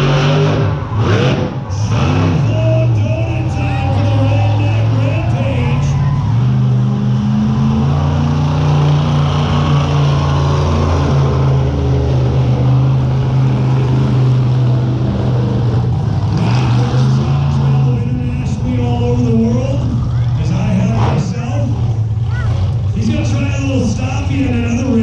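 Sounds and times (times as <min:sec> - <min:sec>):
monster truck engine at high revs: 0:00.0 - 0:25.0.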